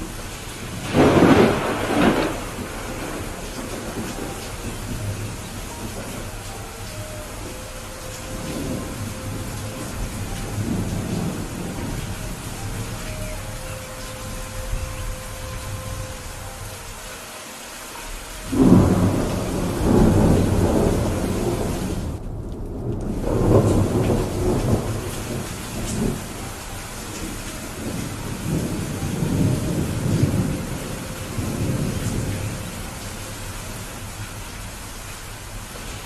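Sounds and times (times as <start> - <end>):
rolling thunder: 0.0 - 16.8, 18.5 - 34.8
steady rain: 0.0 - 36.0.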